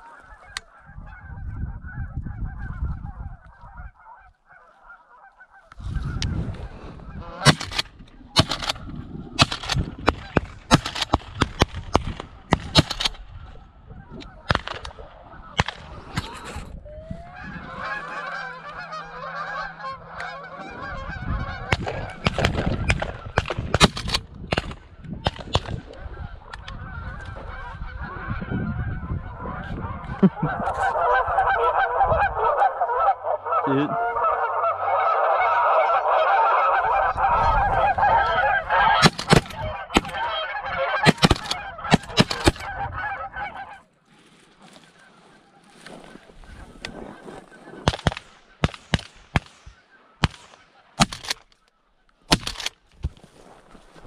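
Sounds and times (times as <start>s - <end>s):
flock of geese honking: 0.0s - 23.8s, 24.6s - 52.4s.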